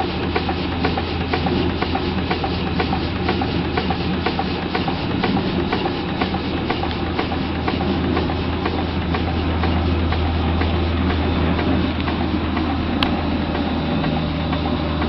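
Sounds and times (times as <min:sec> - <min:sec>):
low hum: 0:00.0 - 0:15.0
steam engine clicking beat: 0:00.0 - 0:15.0
steam hissing: 0:00.0 - 0:15.0.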